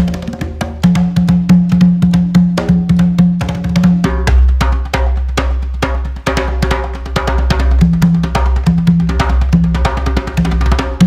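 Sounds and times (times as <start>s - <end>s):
congas played with bare hands: 0.0s - 11.0s.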